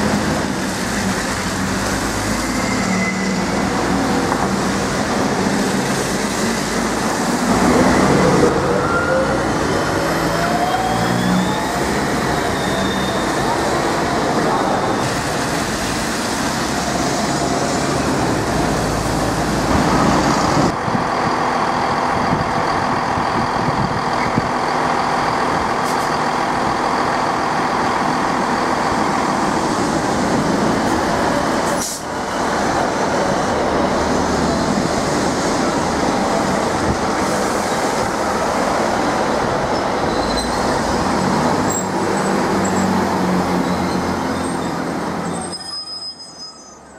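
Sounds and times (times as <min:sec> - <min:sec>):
train rumbling: 0:00.0 - 0:45.8
bus passing: 0:00.0 - 0:46.9.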